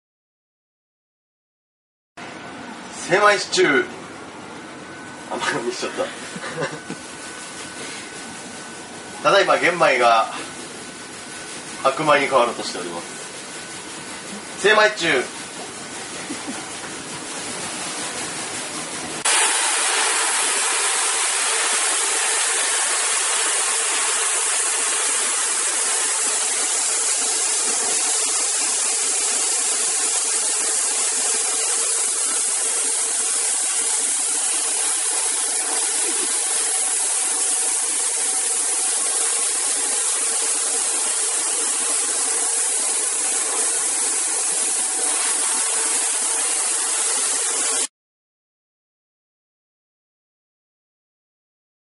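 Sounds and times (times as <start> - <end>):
rice polishing machine hiss: 5.3 - 47.9.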